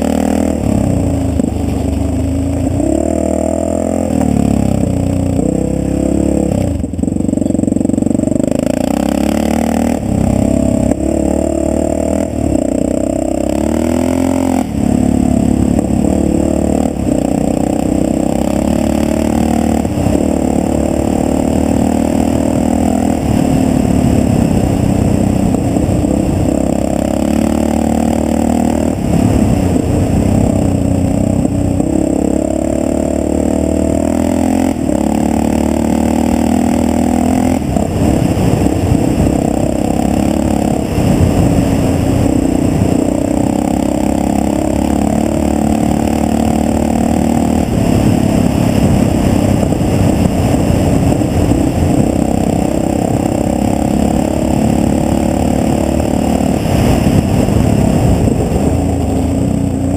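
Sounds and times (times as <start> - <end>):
motorcycle engine running hard: 0.0 - 59.9.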